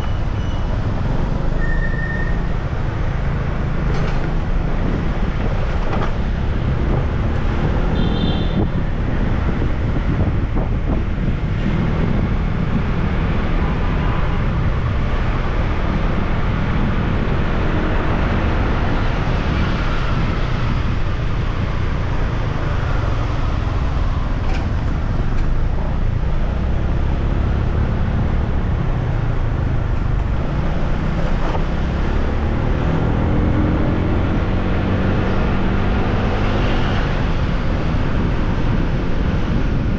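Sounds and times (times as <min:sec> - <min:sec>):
traffic noise: 0:00.0 - 0:39.9
wind rushing over microphone: 0:02.3 - 0:39.9.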